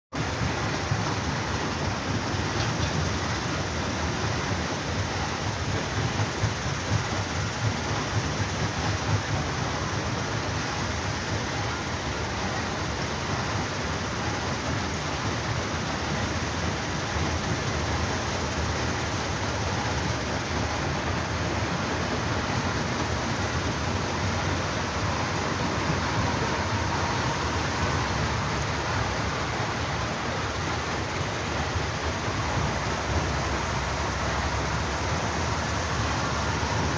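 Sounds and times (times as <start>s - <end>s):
heavy construction machinery rumble: 0.2s - 36.9s.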